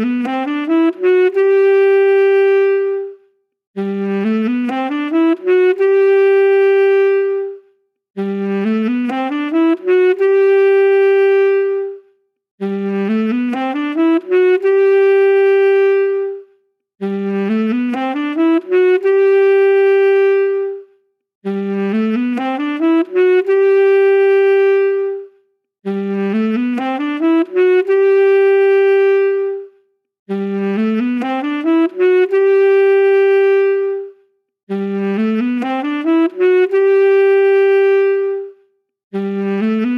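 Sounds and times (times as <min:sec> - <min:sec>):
saxophone phrase: 0:00.0 - 0:39.9.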